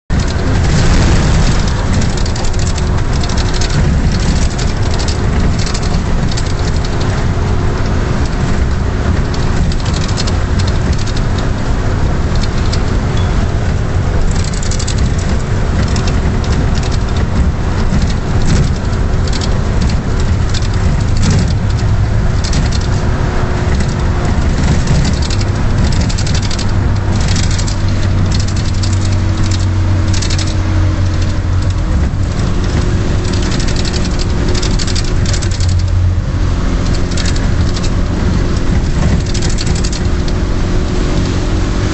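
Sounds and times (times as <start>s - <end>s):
rain hiss and patter: 0.1s - 41.9s
storm wind buffeting microphone: 0.1s - 41.9s.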